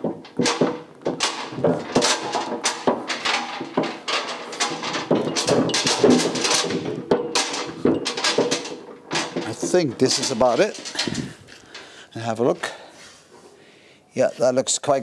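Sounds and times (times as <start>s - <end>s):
steel base plate scraping floor: 0.0s - 12.4s.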